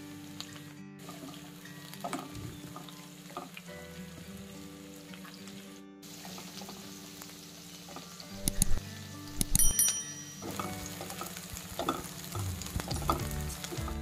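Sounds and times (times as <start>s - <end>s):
background music: 0.0s - 14.0s
onions sizzling in hot oil: 0.0s - 14.0s.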